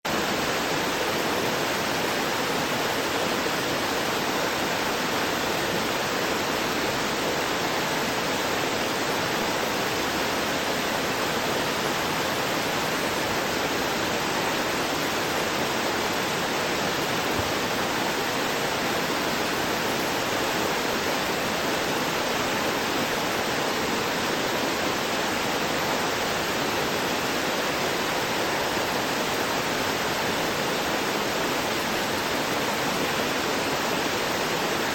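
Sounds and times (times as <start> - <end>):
waterfall rushing over rocks: 0.0 - 34.9.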